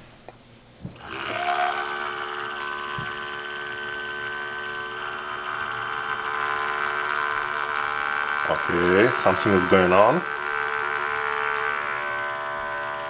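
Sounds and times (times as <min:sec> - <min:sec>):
espresso machine pump buzzing: 0:00.9 - 0:13.0.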